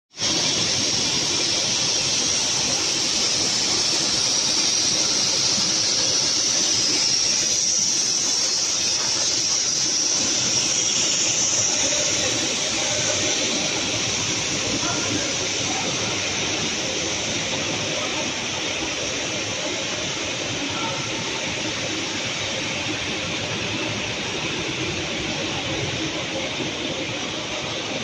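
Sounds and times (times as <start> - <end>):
drying machine hiss and rumble: 0.1 - 28.0.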